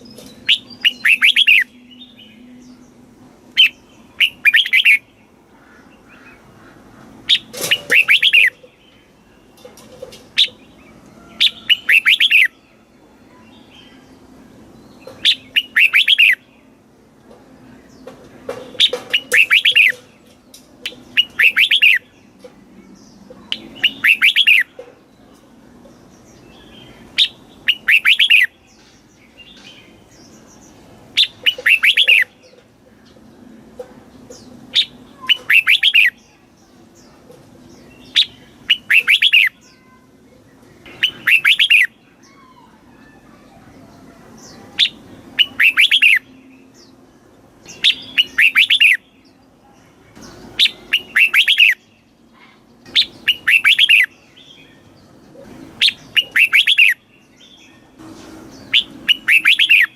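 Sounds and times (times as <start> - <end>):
bulbul singing: 0.0 - 17.0, 17.6 - 59.9.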